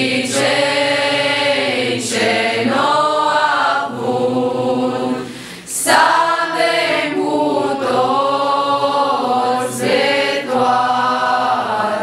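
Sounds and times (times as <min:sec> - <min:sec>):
group singing a carol unaccompanied: 0:00.0 - 0:12.0.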